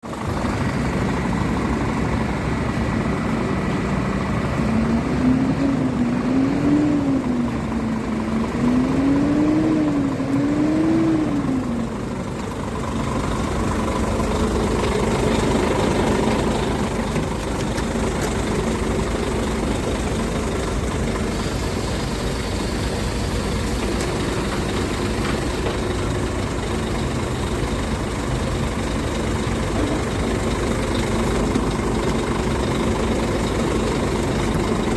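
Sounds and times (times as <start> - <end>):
diesel engine idling and revving: 0.0 - 34.9.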